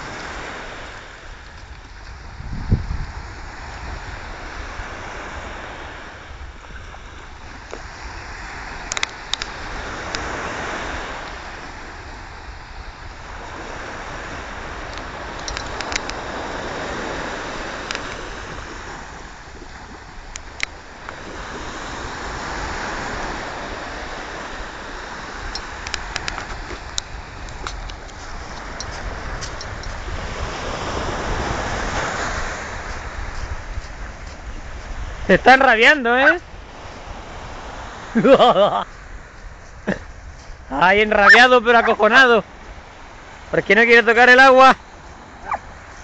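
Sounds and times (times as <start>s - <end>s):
sea waves breaking: 0.0s - 46.0s.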